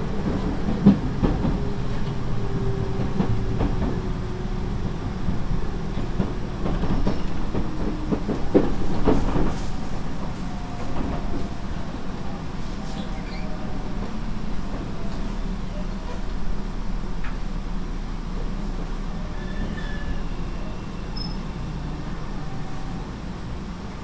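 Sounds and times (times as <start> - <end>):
train rumble from inside: 0.0 - 24.0.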